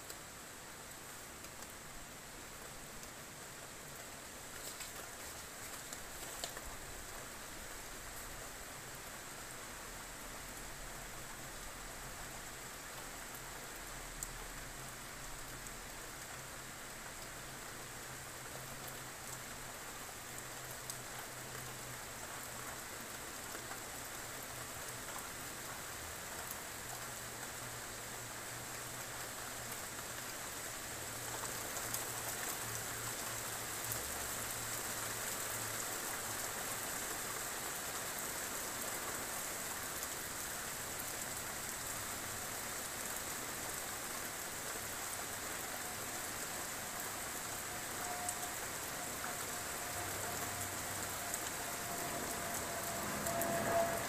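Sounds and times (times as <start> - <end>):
rain on a roof: 0.0 - 54.0.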